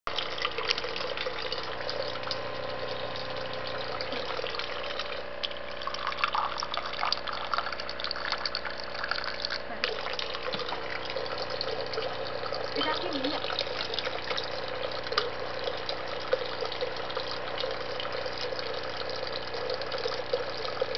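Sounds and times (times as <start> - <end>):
machine hum: 0.1 - 20.9
water stream into container: 0.1 - 20.9.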